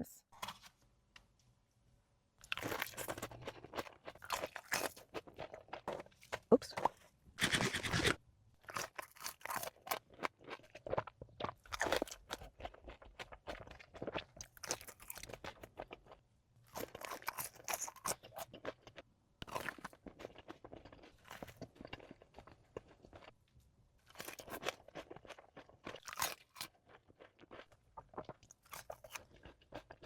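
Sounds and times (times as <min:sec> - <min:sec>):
crunchy food chewing: 0:02.4 - 0:23.4, 0:24.0 - 0:30.0.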